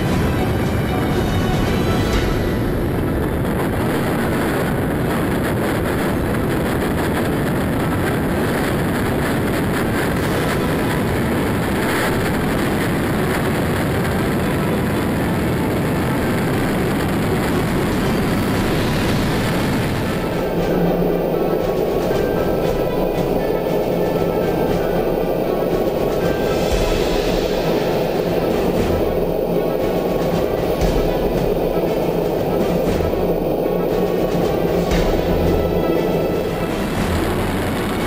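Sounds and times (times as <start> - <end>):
jet airflow and engine rushing: 0.0 - 38.0
wind on microphone: 0.0 - 38.0.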